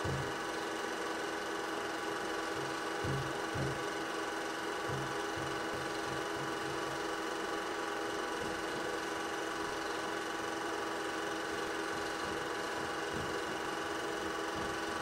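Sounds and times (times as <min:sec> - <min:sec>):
film projector whirring: 0:00.0 - 0:15.0.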